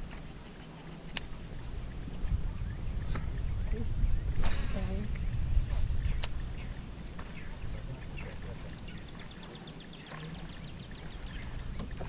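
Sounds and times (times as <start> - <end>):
low rumbling background: 0.0 - 12.0.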